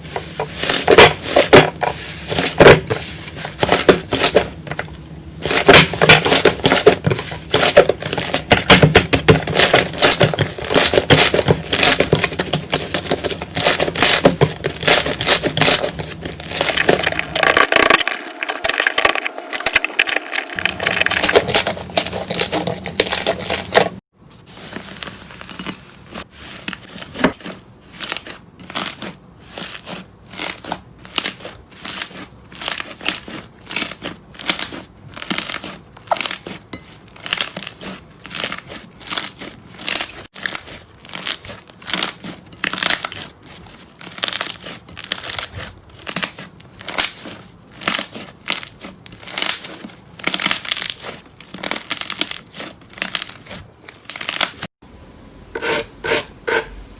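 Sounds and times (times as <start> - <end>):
slime squishing by hand: 0.0 - 54.7.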